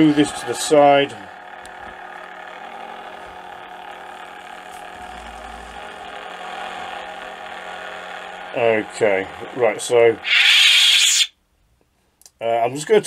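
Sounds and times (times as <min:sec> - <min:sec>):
lightsaber electric hum: 0:00.0 - 0:11.3.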